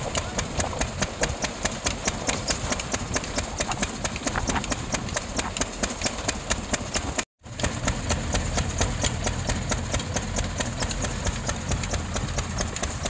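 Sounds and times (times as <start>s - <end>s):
thresher mechanical clatter: 0.0s - 13.0s.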